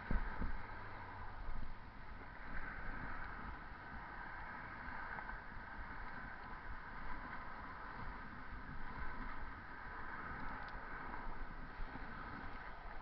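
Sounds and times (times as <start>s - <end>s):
bicycle road noise on pavement: 0.0s - 13.0s
wind rush: 0.0s - 13.0s.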